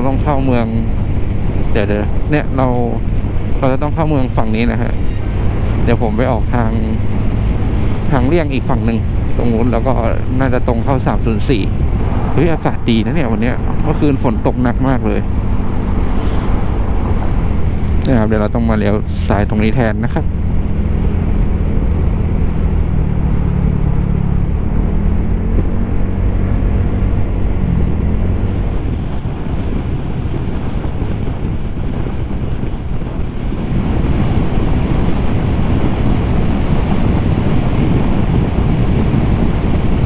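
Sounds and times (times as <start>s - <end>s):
wind on microphone: 0.0s - 40.0s.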